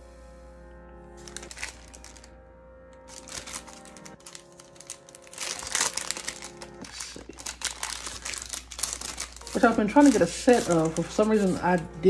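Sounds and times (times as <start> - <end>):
soft background music: 0.0 - 12.0
plastic packaging crinkling: 1.2 - 2.4, 3.0 - 12.0.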